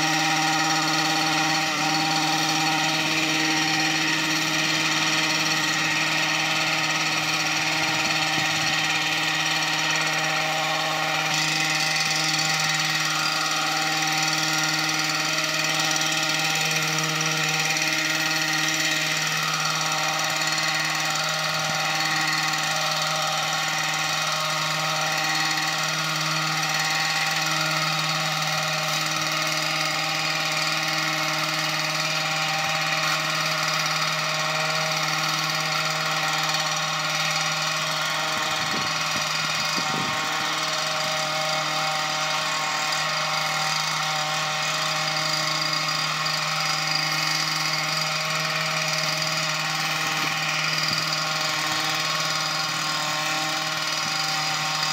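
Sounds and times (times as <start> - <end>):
hedge trimmer running: 0.0 - 54.9.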